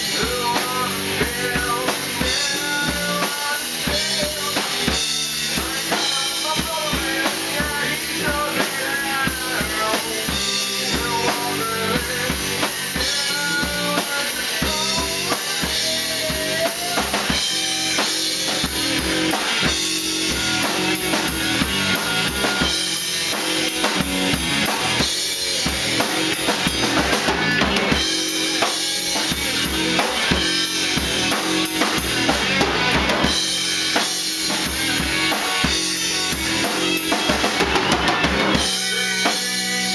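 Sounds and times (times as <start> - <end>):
bass drum and snare beat: 0.0 - 39.9
rock band playing: 0.0 - 39.9.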